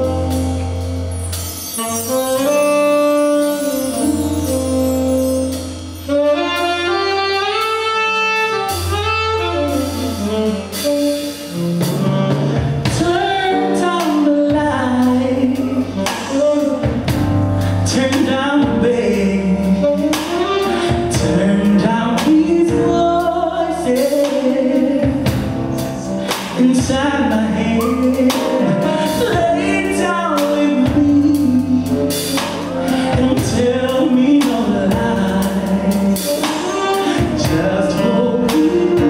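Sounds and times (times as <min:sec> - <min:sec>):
drum kit and percussion: 0:00.0 - 0:39.0
electric bass: 0:00.0 - 0:39.0
saxophone melody: 0:00.0 - 0:39.0.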